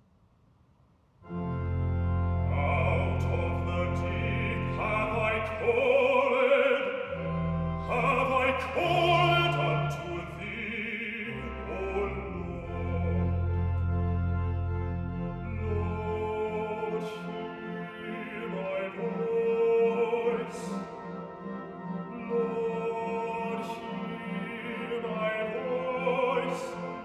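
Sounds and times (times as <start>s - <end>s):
organ playing sustained chords: 1.2s - 27.0s.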